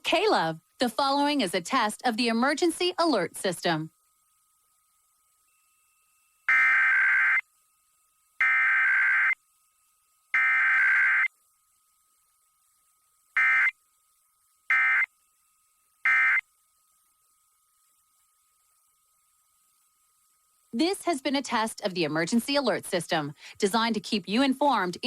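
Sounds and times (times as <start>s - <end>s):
buzzing data tones: 0.0s - 25.0s.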